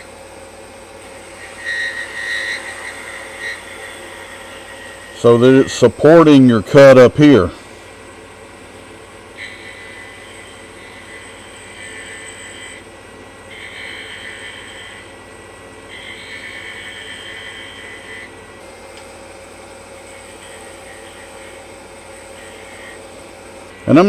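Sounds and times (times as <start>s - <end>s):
wood lathe humming: 0.0s - 24.0s
turning tool cutting wood: 1.0s - 7.0s, 9.3s - 19.1s, 19.8s - 23.7s.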